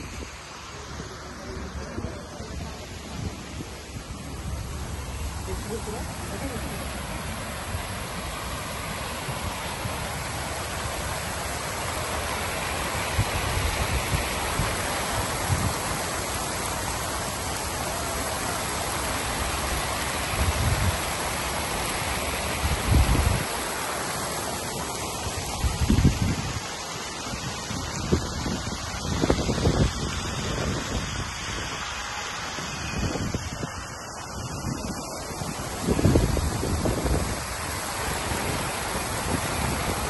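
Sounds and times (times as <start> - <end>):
fountain water splashing: 0.0 - 40.0.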